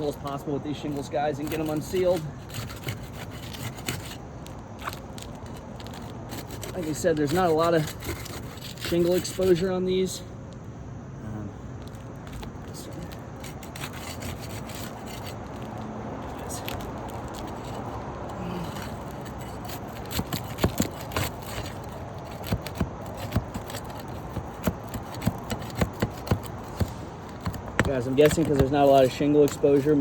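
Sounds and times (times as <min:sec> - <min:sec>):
roof shingles scraping: 0:00.0 - 0:10.2, 0:11.8 - 0:30.0.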